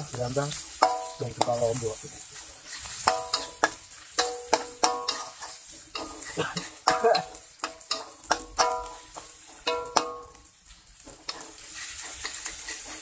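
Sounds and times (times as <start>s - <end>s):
oil sizzling: 0.0s - 13.0s
spatula scraping and knocking wok: 0.0s - 13.0s.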